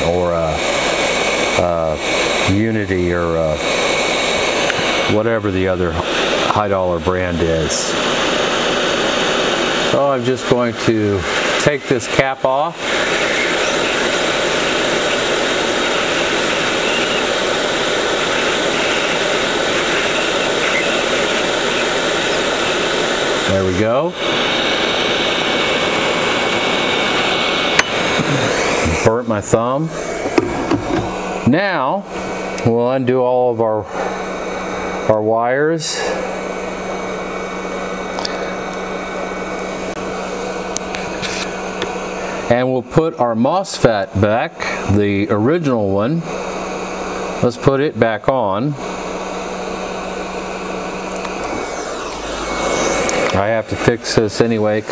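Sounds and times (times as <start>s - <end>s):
hot air station blowing: 0.0s - 54.9s.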